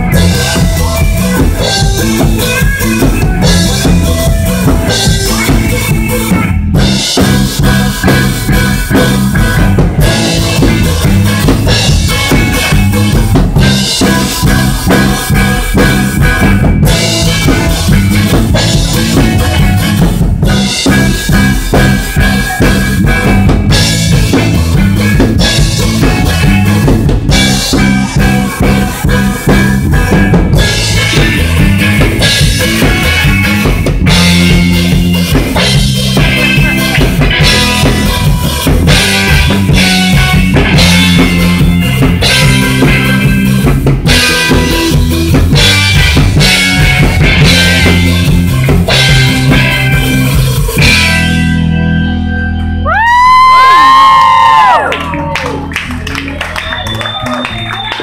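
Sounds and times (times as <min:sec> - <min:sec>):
drum kit beat: 0:00.0 - 0:51.7, 0:52.9 - 0:55.1
electric guitar through amplifier: 0:00.0 - 0:58.0.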